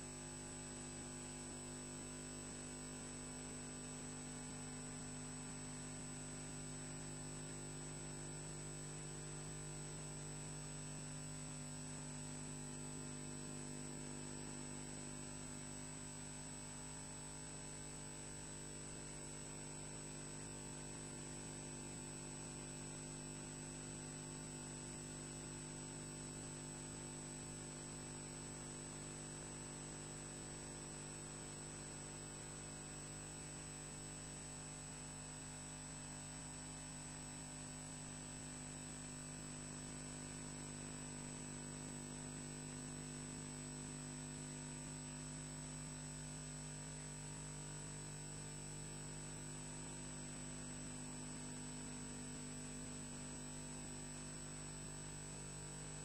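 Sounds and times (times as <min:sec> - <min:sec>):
electrical hum with high whine: 0:00.0 - 0:56.0.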